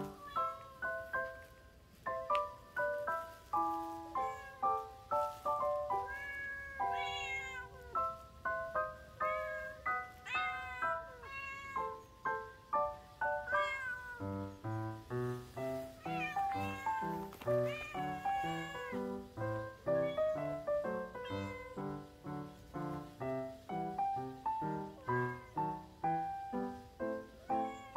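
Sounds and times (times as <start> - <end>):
cats meowing: 0.0 - 1.6, 3.8 - 12.6, 13.2 - 15.0, 15.8 - 22.7, 24.6 - 27.9.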